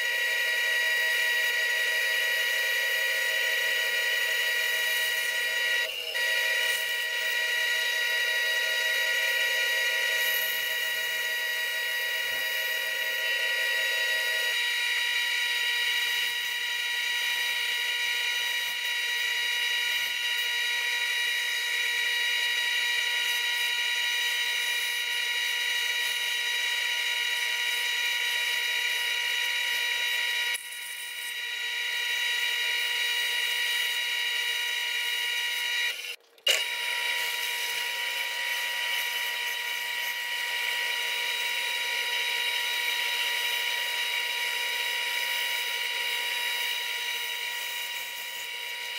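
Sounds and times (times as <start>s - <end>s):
bandsaw whining through wood: 0.0s - 48.9s.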